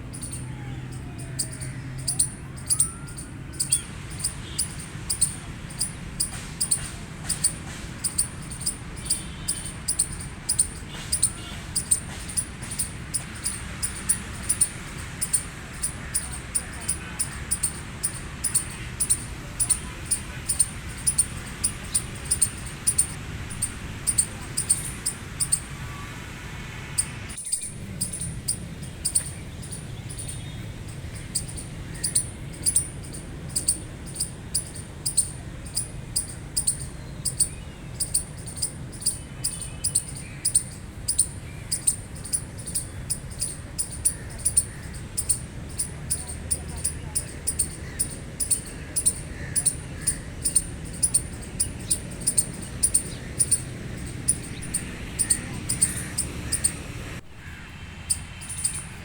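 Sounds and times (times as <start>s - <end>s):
squirrel chirping: 0.0s - 26.0s, 27.0s - 59.0s.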